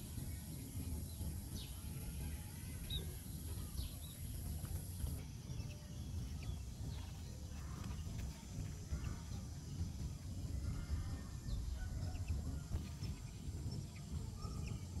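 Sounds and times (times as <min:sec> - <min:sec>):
faint bird chirps: 0:00.0 - 0:15.0
low rumble: 0:00.0 - 0:15.0.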